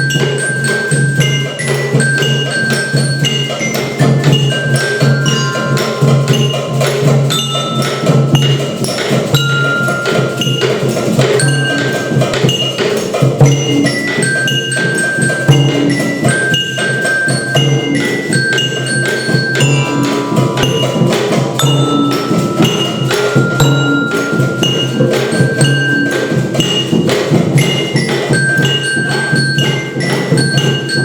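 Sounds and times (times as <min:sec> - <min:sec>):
percussion ensemble knocks: 0:00.0 - 0:31.0
ringing bell-like notes: 0:00.0 - 0:31.0.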